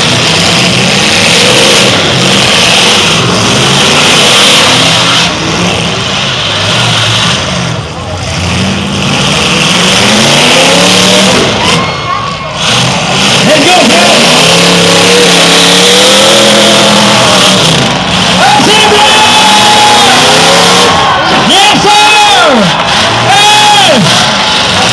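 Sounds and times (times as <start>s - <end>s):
car engines revving: 0.0s - 24.9s.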